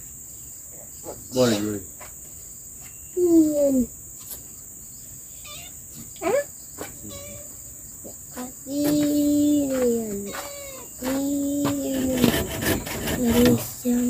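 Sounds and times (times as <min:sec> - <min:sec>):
forest insects chorus: 0:00.0 - 0:14.0.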